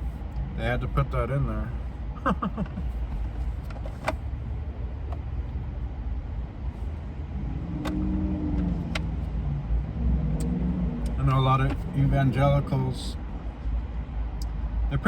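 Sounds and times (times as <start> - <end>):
car rumbling: 0.0 - 15.0.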